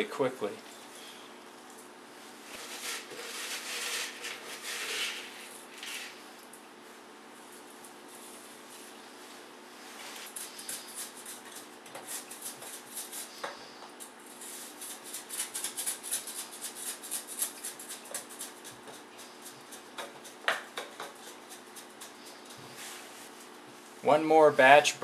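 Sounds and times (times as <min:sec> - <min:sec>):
crunching and scraping of wet mix: 0:00.9 - 0:24.2.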